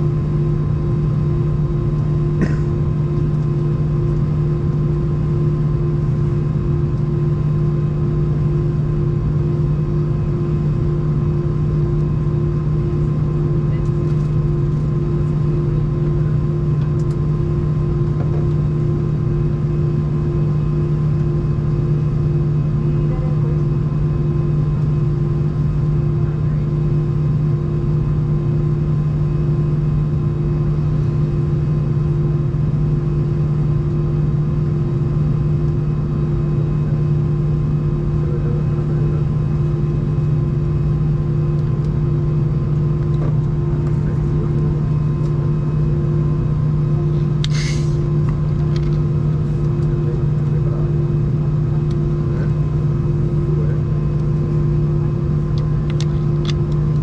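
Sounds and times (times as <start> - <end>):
aircraft engines idling: 0.0 - 57.0
constant hum: 0.0 - 57.0.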